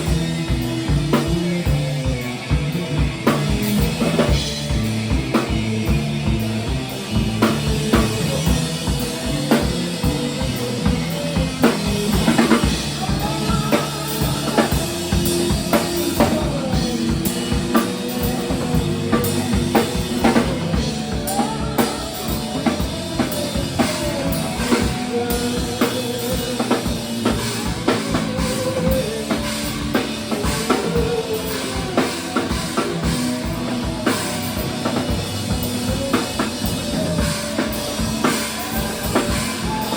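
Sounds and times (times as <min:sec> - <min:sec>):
driving drum kit: 0:00.0 - 0:39.9
punk rock band playing: 0:00.0 - 0:39.9.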